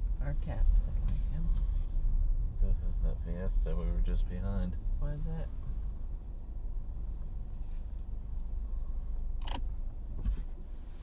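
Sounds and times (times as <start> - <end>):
car engine rumble from inside: 0.0 - 11.0.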